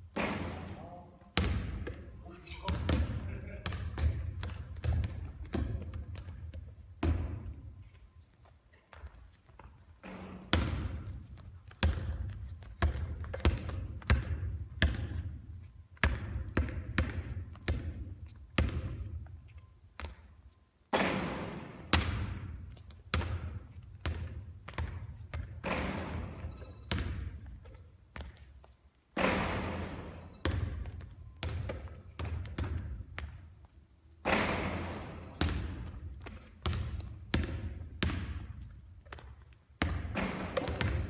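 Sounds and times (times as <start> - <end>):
basketball bouncing on hard court: 0.1 - 7.7, 8.9 - 15.4, 16.0 - 19.4, 20.9 - 28.5, 29.2 - 33.6, 34.2 - 41.0.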